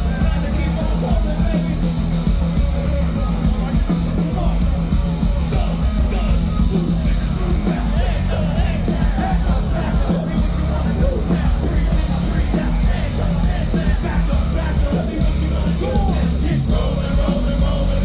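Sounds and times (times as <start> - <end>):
live metal band playing: 0.0 - 18.0.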